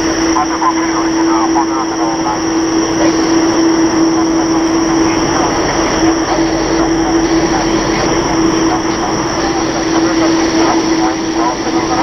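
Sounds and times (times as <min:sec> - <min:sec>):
high engine whine: 0:00.0 - 0:12.0
jet engines idling: 0:00.0 - 0:12.0
rushing noise: 0:00.0 - 0:12.0.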